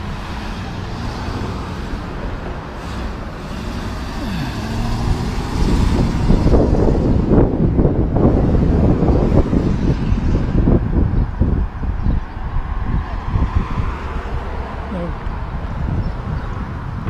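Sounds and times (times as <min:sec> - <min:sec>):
vehicles driving past: 0:00.0 - 0:17.0
wind buffeting microphone: 0:00.0 - 0:17.0.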